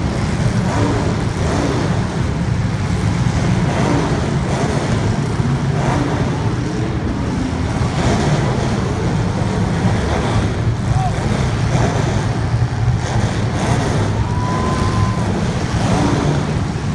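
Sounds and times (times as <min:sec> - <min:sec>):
race car engines rumbling: 0:00.0 - 0:16.9.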